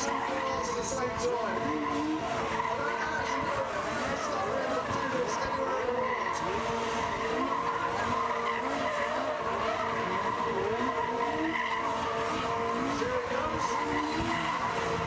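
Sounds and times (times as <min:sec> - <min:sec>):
car engines revving: 0:00.0 - 0:15.0
tyres skidding and squealing: 0:00.0 - 0:15.0.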